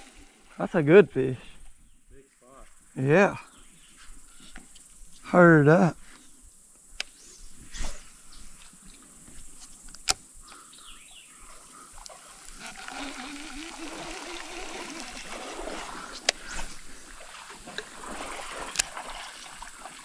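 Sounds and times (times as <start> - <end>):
creek water trickling and splashing: 0.0 - 20.0.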